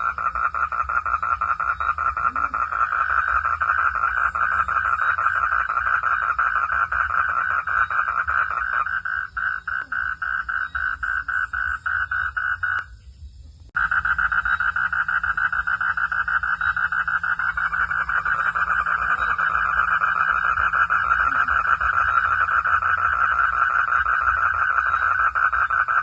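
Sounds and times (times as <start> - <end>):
frogs calling in pulses: 0.0 - 13.0, 13.8 - 26.0
steady low hum: 0.0 - 26.0.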